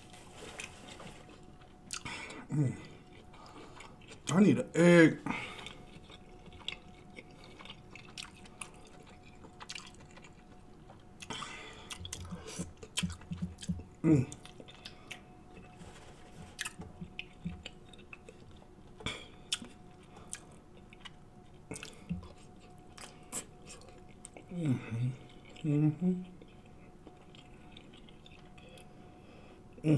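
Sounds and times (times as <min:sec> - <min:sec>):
wet chewing and lip smacks: 0:00.6 - 0:04.3, 0:05.4 - 0:15.7, 0:16.6 - 0:24.5, 0:25.3 - 0:28.9.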